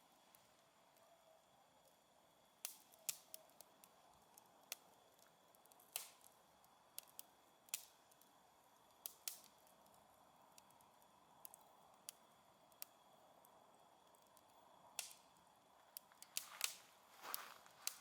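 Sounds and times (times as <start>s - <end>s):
faint steady hiss: 0.0s - 18.0s
wood fire crackling: 2.6s - 18.0s.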